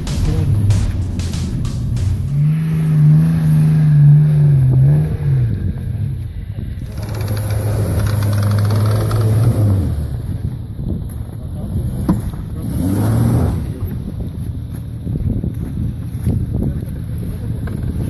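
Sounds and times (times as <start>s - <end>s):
engine running at low revs: 0.0s - 18.0s.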